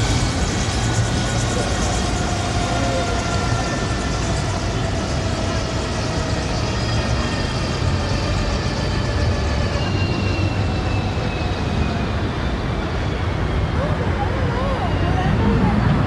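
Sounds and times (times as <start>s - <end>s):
helicopter turbine and rotor noise: 0.0s - 16.0s.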